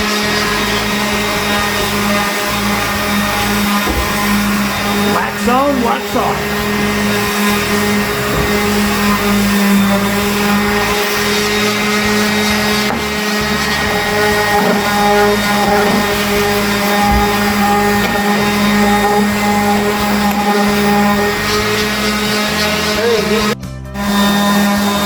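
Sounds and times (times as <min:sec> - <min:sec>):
electric motor humming: 0:00.0 - 0:25.0.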